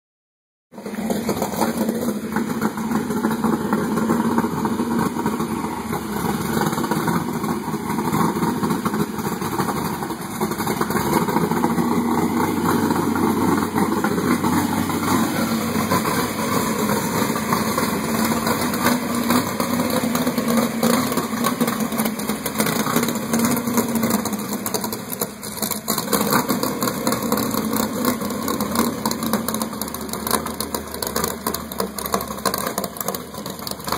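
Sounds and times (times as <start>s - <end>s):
car engine idling: 0.7s - 33.9s.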